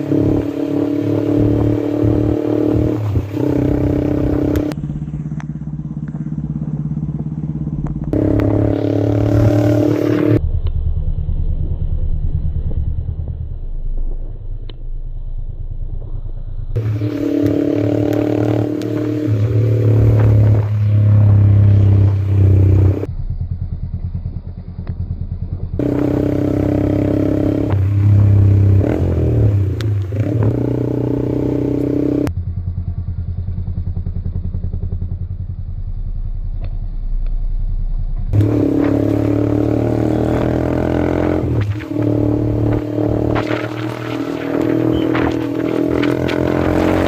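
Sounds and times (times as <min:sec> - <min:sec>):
motorcycle engine revving: 0:00.0 - 0:14.7, 0:16.7 - 0:37.2, 0:37.8 - 0:47.0.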